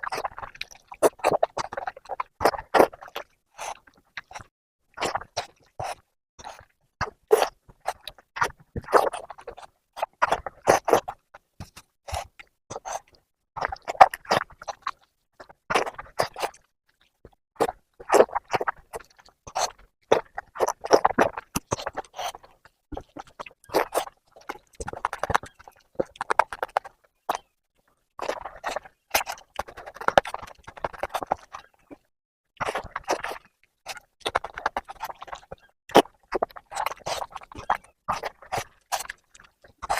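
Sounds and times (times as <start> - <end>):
chewing and mouth smacking: 0.0 - 39.9.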